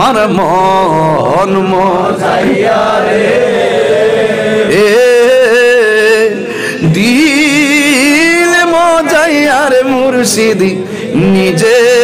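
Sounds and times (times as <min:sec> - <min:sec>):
man singing unaccompanied: 0:00.0 - 0:03.1, 0:04.5 - 0:12.0.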